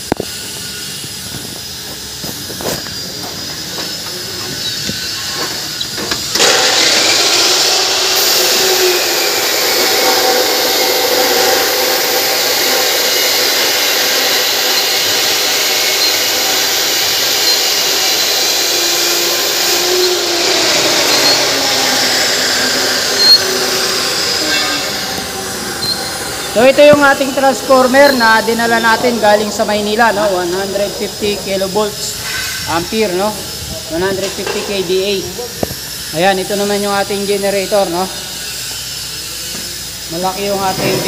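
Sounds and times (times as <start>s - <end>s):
machine hiss with whining tones: 0.0s - 41.0s.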